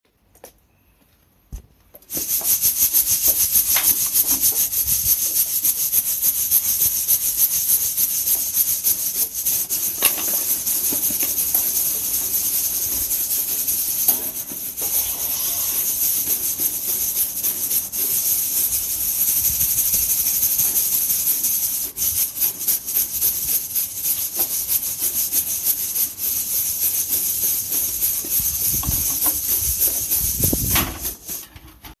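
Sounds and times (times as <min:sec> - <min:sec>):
coffee beans rattling in roaster: 0:02.1 - 0:32.0.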